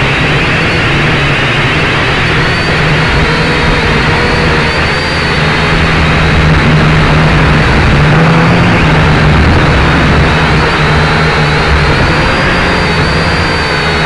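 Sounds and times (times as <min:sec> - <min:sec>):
drone propellers whirring: 0:00.0 - 0:14.0.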